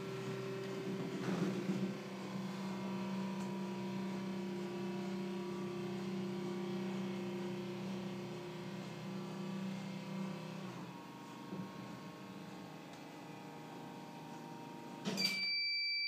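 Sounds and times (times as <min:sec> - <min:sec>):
stairlift motor humming: 0:00.0 - 0:15.0.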